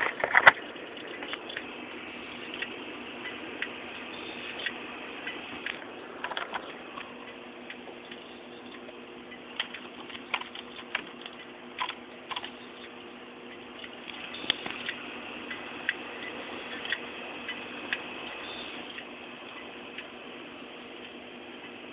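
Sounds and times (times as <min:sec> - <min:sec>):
computer humming: 0:00.0 - 0:21.9
sharp ticks and clicks: 0:02.4 - 0:20.1.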